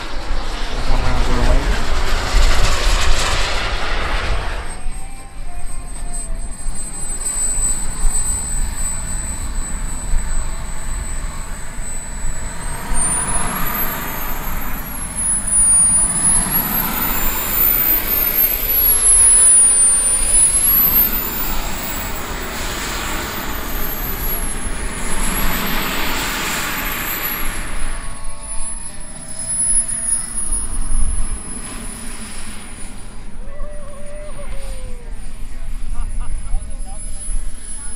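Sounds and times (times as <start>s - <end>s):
model jet turbine whining: 0.0s - 37.9s.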